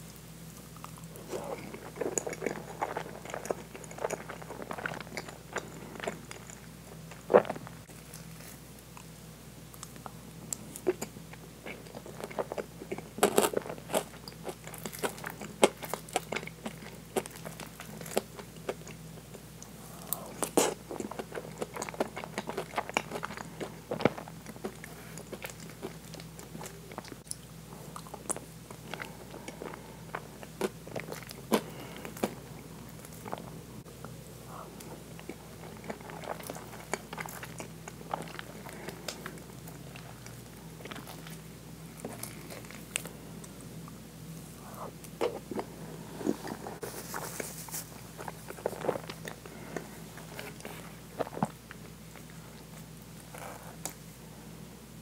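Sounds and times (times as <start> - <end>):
faint steady hum: 0.0 - 55.0
wet chewing: 0.6 - 9.1, 9.7 - 33.5, 34.5 - 43.7, 44.6 - 54.0.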